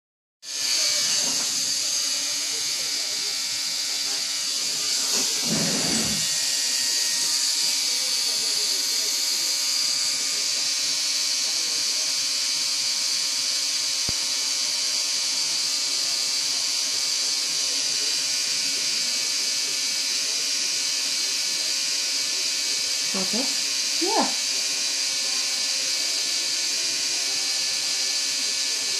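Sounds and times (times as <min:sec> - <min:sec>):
machine pen buzzing: 0:00.4 - 0:28.9.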